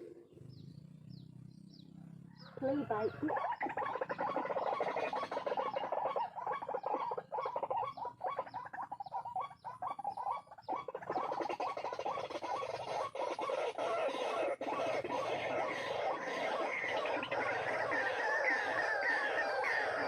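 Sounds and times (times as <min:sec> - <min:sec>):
bird croaking calls: 0:00.0 - 0:20.0.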